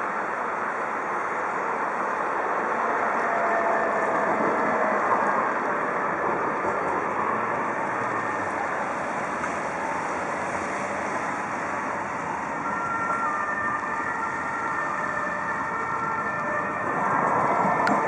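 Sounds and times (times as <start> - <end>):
street traffic noise: 0.0 - 18.0
trams rolling on wet tracks: 0.0 - 18.0.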